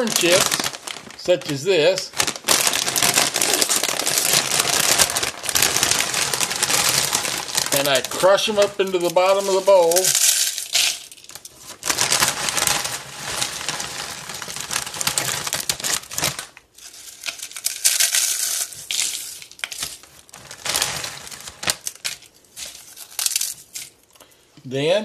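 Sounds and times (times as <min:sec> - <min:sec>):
chips crunching by hand: 0:00.0 - 0:24.2.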